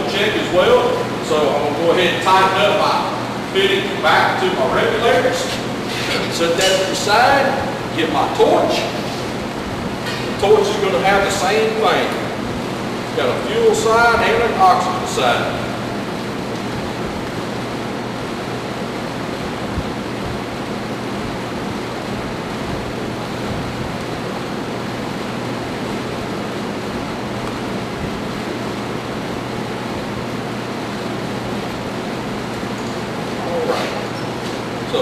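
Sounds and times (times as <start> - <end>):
ventilation system roar: 0.0 - 35.0.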